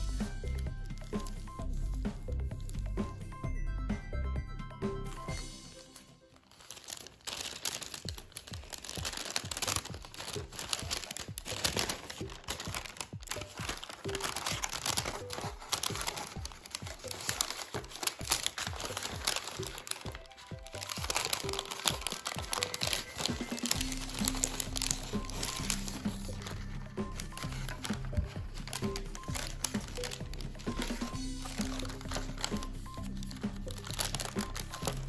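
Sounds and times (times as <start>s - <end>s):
paper crinkling while folded: 0.0s - 3.4s, 5.0s - 35.0s
background music: 0.0s - 35.0s.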